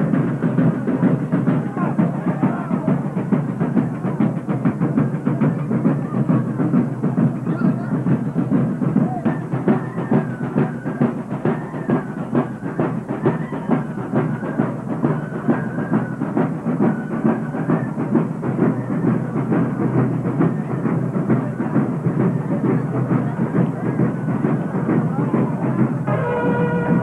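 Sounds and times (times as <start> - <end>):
rapid steady drumming: 0.0 - 27.0.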